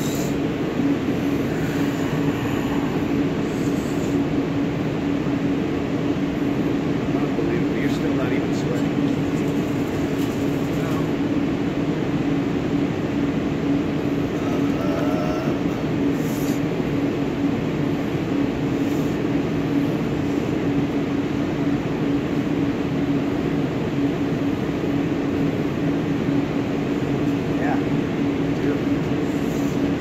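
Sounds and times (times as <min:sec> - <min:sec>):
machinery drone: 0:00.0 - 0:30.0.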